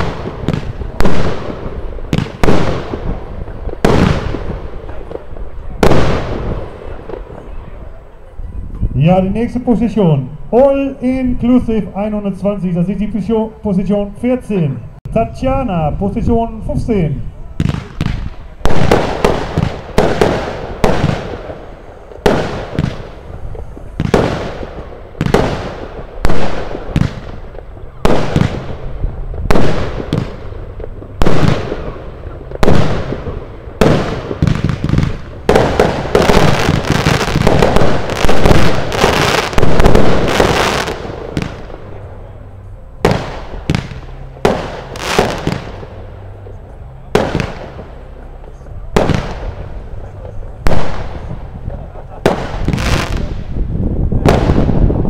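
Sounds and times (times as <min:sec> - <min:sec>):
firework bangs with crackling: 0:00.0 - 0:07.7, 0:16.1 - 0:42.4, 0:43.0 - 0:55.0.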